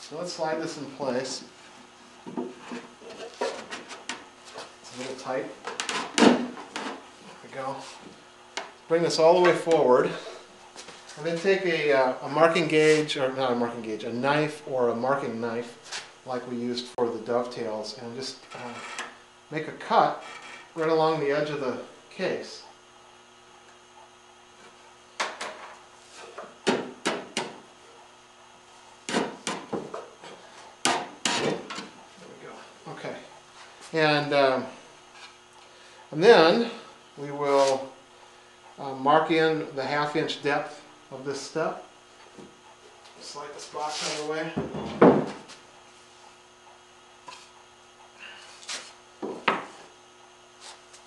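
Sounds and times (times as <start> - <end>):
steady electrical hum: 0.0 - 51.0.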